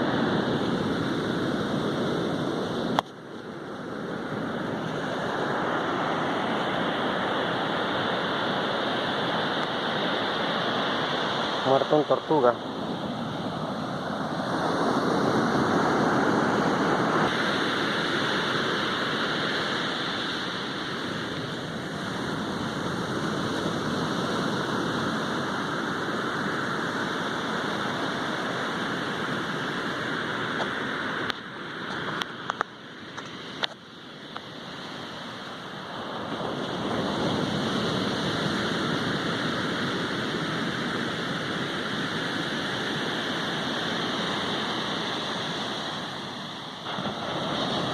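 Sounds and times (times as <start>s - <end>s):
sea surf washing on shore: 0.0s - 47.9s.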